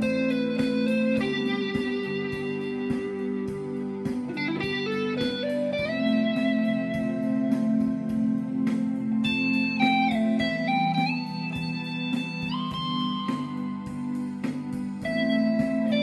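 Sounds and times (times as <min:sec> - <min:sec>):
electric guitar lead melody: 0:00.0 - 0:16.0
regular beat: 0:00.0 - 0:16.0.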